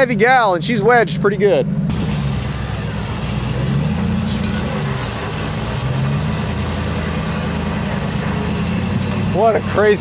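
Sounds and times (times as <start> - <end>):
off-road vehicle engines running: 0.0 - 10.0.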